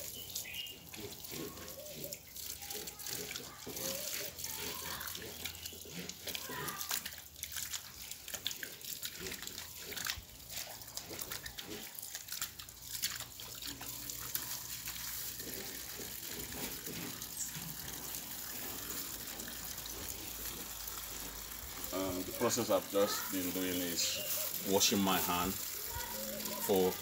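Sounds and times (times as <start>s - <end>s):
water running from hose: 0.0s - 27.0s
water splashing over hands: 0.0s - 27.0s.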